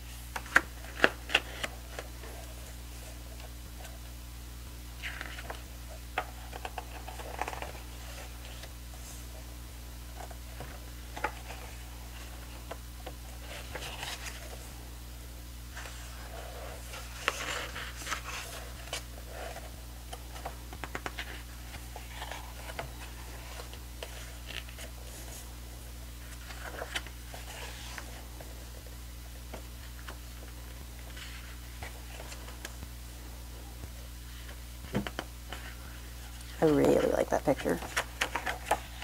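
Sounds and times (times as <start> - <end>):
steady low hum: 0.0 - 39.0
pages rustling and turning: 0.1 - 4.2, 5.0 - 9.5, 10.1 - 14.8, 15.7 - 39.0.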